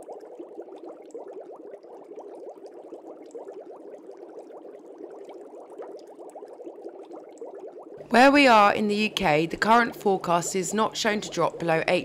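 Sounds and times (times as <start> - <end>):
aquarium filter bubbling: 0.0 - 12.0.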